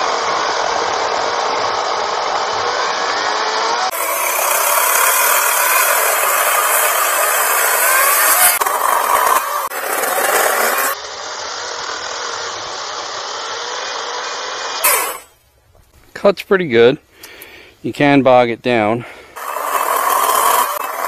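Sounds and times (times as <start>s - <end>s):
electric chainsaw cutting log: 0.0s - 15.4s, 19.4s - 21.0s.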